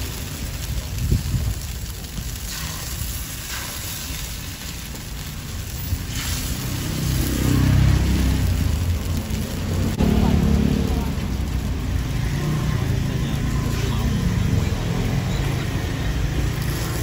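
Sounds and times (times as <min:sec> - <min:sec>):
batter sizzling in a hot pan: 0:00.0 - 0:17.0
low engine rumble: 0:00.0 - 0:17.0.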